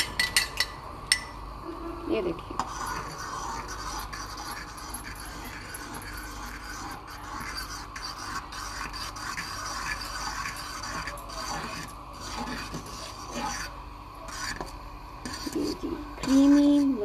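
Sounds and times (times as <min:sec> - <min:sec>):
fork scraping metal pot: 0:02.6 - 0:17.0.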